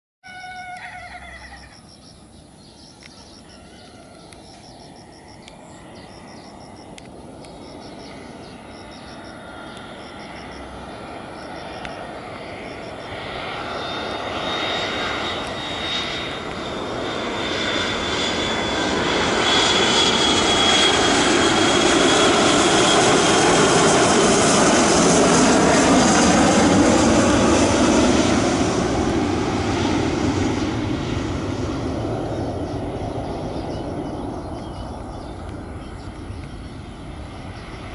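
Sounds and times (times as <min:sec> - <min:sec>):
high jet whine: 0:00.3 - 0:37.9
jet airliner rumble: 0:00.3 - 0:37.9.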